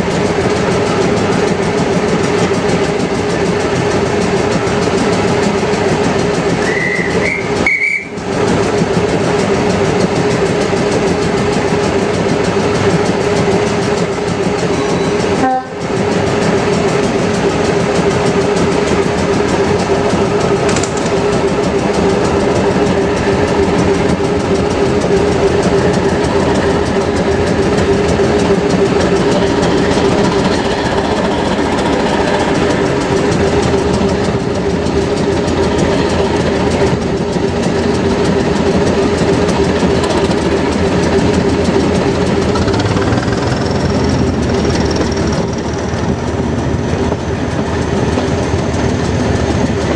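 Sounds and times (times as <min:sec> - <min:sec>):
diesel train engine droning: 0:00.0 - 0:49.9
train running on rails: 0:00.0 - 0:49.9.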